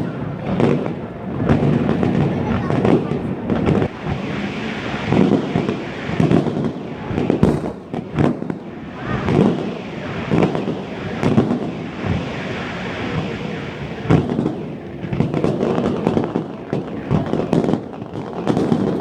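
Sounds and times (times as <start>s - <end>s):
fireworks booming: 0.0s - 19.0s
fireworks crackling: 0.0s - 19.0s.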